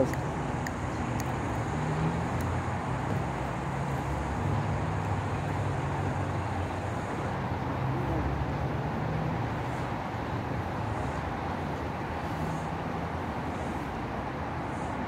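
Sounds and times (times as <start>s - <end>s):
low engine drone: 0.0s - 14.1s.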